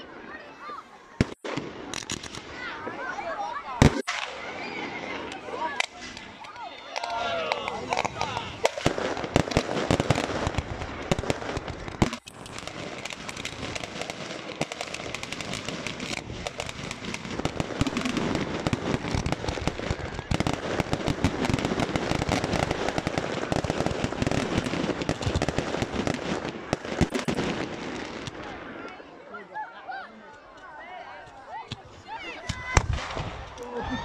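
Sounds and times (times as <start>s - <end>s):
firework bangs and crackling: 0.0s - 29.1s, 31.7s - 33.7s.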